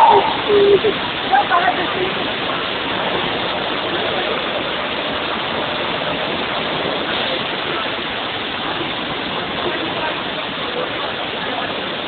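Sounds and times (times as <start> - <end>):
heavy rushing noise: 0.0 - 11.7.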